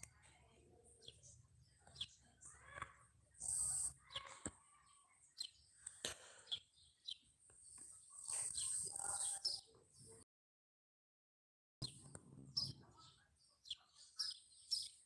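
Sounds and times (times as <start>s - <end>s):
faint bird chirps: 0.0s - 10.2s, 11.8s - 15.0s.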